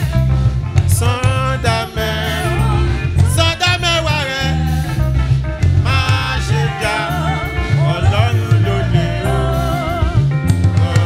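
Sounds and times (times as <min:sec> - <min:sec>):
choir and congregation singing: 0:00.0 - 0:11.0
heavy bass line and beat: 0:00.0 - 0:11.0
live band playing: 0:00.0 - 0:11.0.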